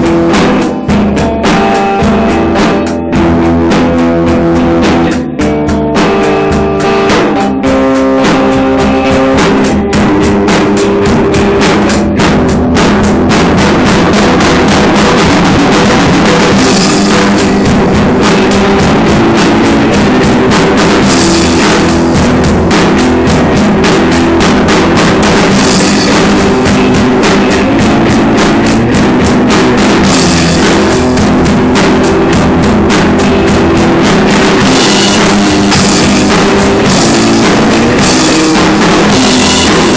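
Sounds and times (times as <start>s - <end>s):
drum kit hits: 0.0s - 39.9s
rock guitar: 0.0s - 39.9s.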